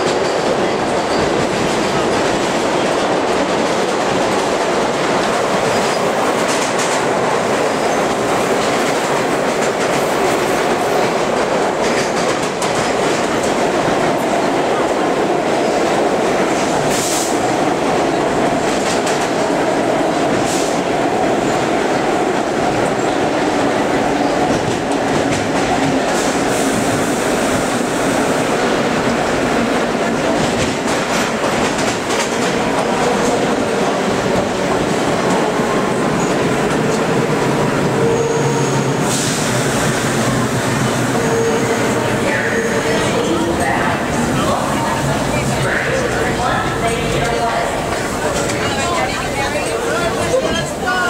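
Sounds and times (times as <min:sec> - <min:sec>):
subway car rumbling and rattling: 0:00.0 - 0:51.0.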